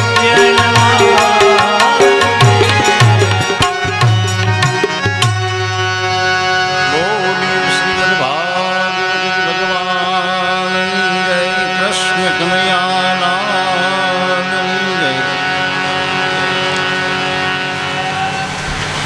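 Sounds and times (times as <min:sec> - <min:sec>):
person singing ornamented melody: 0:00.0 - 0:04.0, 0:06.6 - 0:18.6
harmonium chord: 0:00.0 - 0:18.4.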